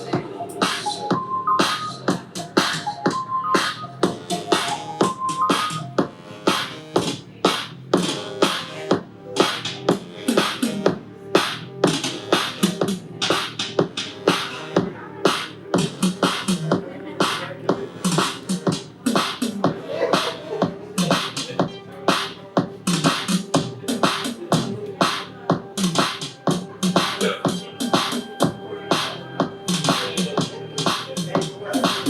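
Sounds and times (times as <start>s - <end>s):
electronic music with rhythmic beat: 0.0s - 32.0s.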